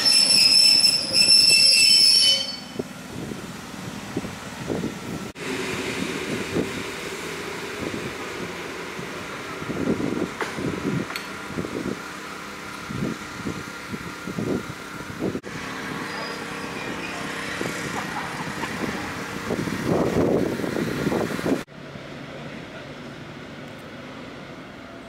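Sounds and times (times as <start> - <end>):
diesel locomotive idling: 0.0 - 25.0.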